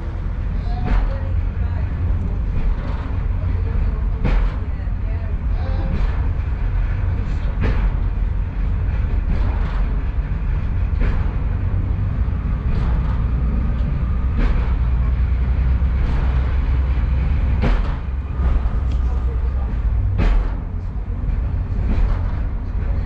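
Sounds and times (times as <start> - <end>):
train low rumble: 0.0 - 23.0
wheels clacking over rail joint: 0.0 - 23.0.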